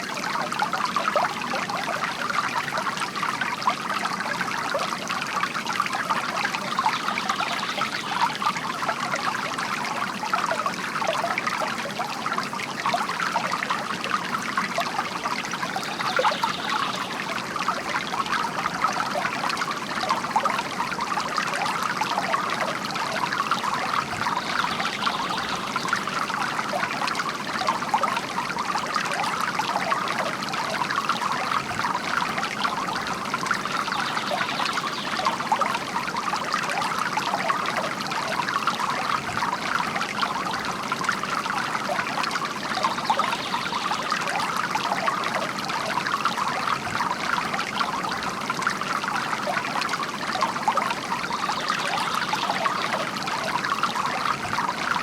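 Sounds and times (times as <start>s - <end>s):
fountain water splashing into basin: 0.0s - 55.0s.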